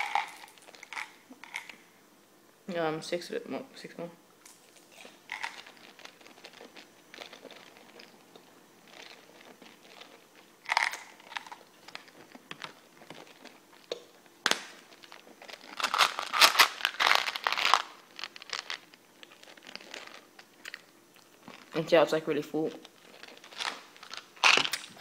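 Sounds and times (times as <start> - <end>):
plastic wrappers crinkling: 0.0 - 1.8, 4.5 - 8.1, 8.9 - 21.8, 22.7 - 25.0.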